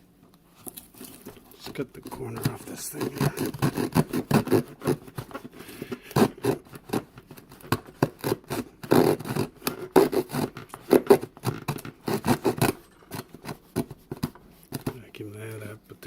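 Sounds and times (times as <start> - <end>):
small saw rasping: 1.7 - 14.9.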